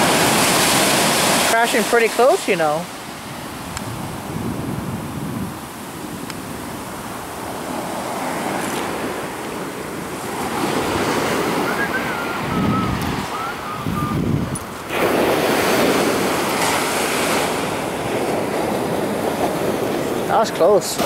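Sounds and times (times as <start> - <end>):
ocean surf crashing: 0.0 - 21.0
wind buffeting microphone: 3.0 - 20.3.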